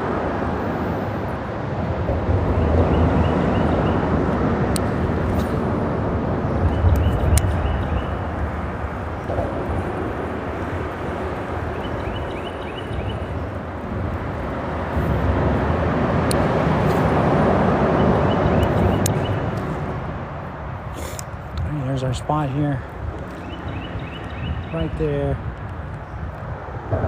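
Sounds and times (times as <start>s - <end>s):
traffic rumble overhead: 0.0s - 27.0s
vehicle passing: 0.0s - 27.0s.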